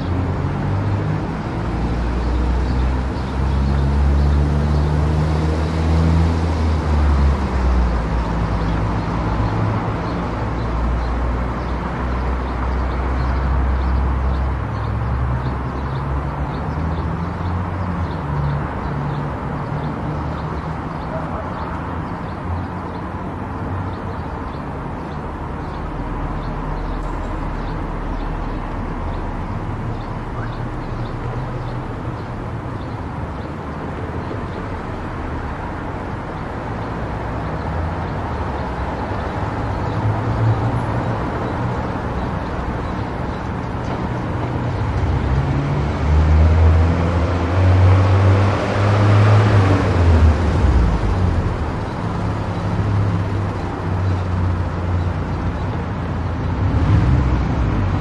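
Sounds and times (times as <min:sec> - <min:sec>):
tyre and road noise: 0:00.0 - 0:58.0.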